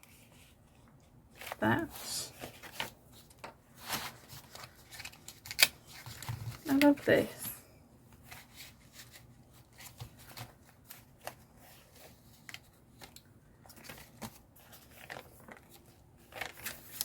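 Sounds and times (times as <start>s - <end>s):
paper pages rustling and clicking: 0.0s - 7.5s, 8.1s - 17.0s.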